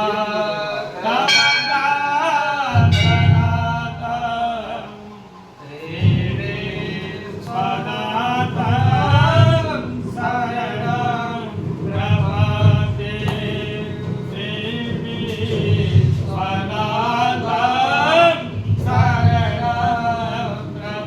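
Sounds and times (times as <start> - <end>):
men singing a hymn: 0.0 - 21.0
musical accompaniment: 0.8 - 21.0.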